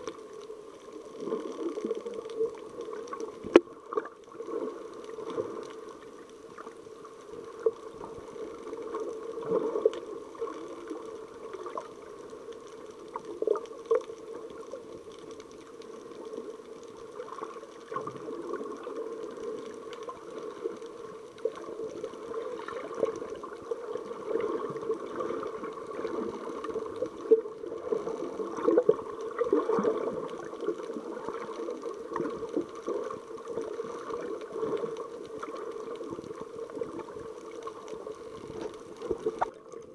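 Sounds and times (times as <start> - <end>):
muffled underwater wash: 0.0 - 39.9.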